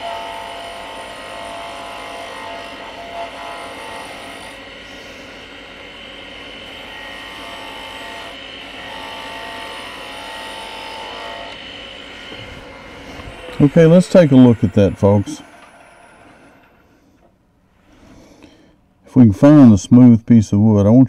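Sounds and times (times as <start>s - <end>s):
gouge scraping spinning wood: 0.0s - 17.2s
lathe motor hum: 0.0s - 18.5s.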